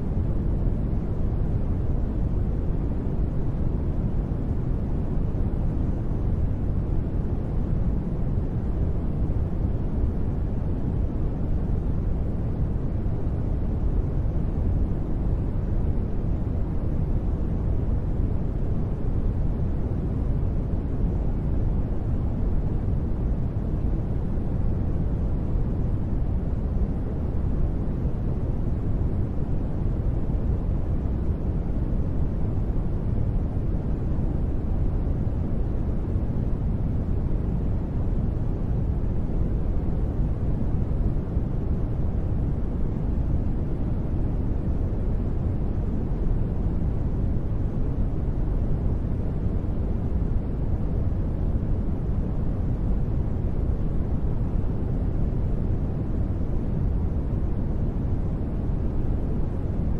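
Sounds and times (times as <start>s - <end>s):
deep low white noise rush: 0.0s - 59.9s.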